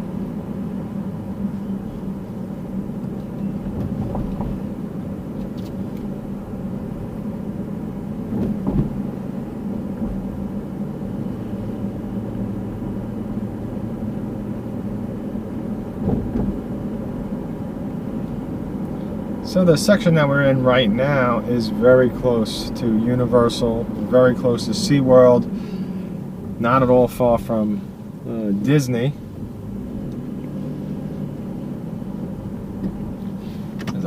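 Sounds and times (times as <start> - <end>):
car cabin road and engine hum: 0.0 - 34.0.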